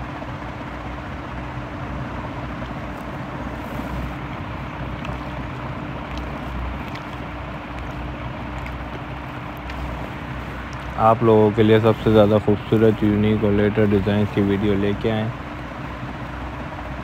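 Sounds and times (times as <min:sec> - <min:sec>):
constant low hum: 0:00.0 - 0:17.0
hiss-like rumble: 0:00.0 - 0:17.0.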